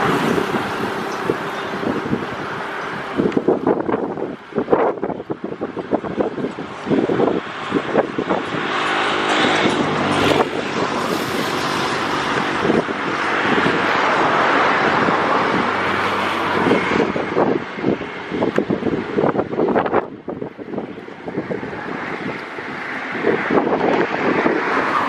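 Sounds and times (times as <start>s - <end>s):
vehicle passing by: 0.0s - 4.7s, 6.9s - 25.0s
wind buffeting microphone: 0.0s - 25.0s.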